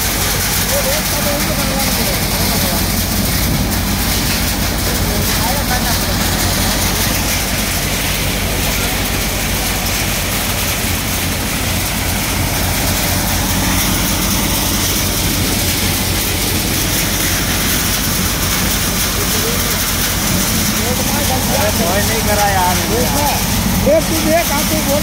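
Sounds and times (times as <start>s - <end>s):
grain thresher low drone: 0.0s - 25.0s
rushing noise from drum and fan: 0.0s - 25.0s.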